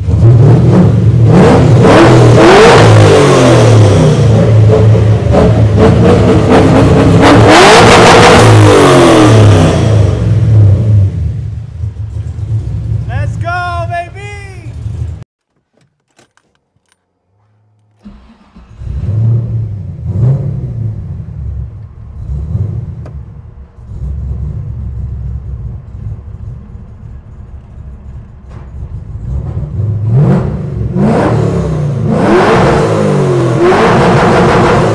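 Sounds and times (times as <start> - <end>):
car engine revving: 0.0 - 13.5, 17.4 - 34.9.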